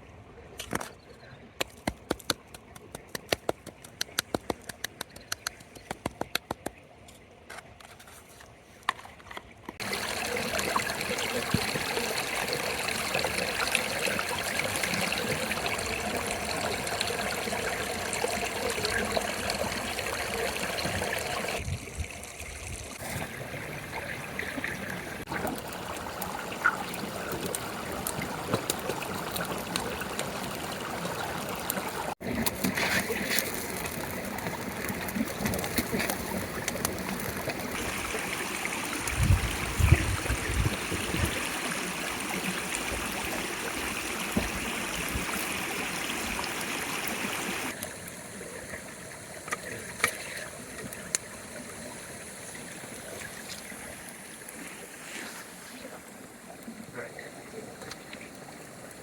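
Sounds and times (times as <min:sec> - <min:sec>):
trickling water: 0:02.1 - 0:59.0.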